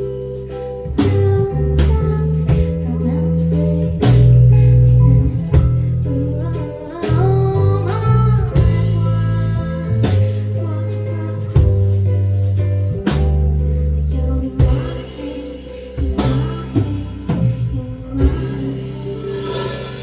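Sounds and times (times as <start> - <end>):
bass guitar: 0.0 - 20.0
drums: 0.0 - 20.0
guitar: 0.0 - 20.0
woman singing: 0.0 - 20.0.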